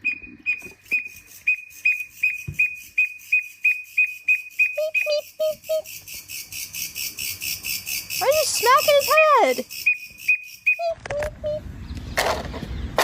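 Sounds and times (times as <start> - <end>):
cricket whistle-like chirps: 0.0 - 11.6.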